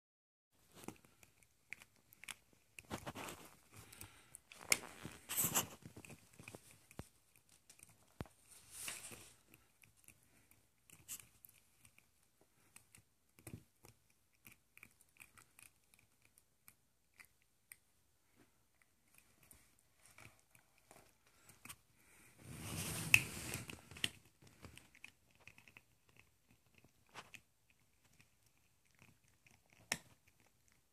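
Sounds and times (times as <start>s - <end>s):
rustling: 0.6s - 14.0s, 18.3s - 30.6s
puppy chewing plastic pen: 0.6s - 30.9s.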